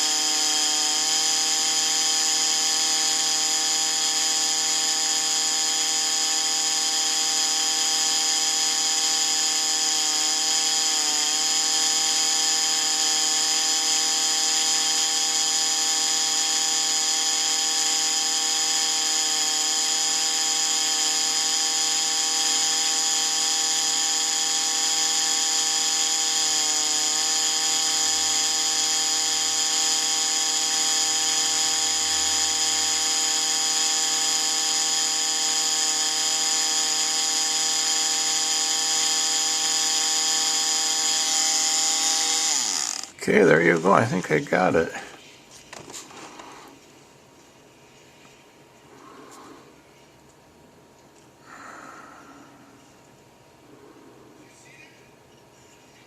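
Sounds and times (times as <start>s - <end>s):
rotary tool grinding with high whine: 0.0s - 46.9s, 48.3s - 50.1s, 51.2s - 54.8s.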